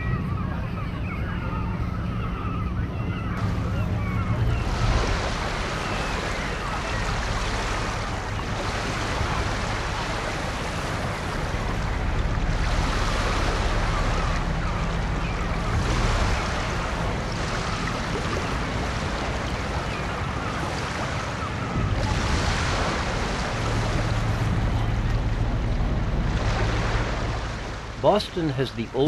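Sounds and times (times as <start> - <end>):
steady low hum: 0.0 - 20.6, 21.6 - 29.0
wind on microphone: 0.0 - 27.9
moving harbour water: 0.0 - 29.0.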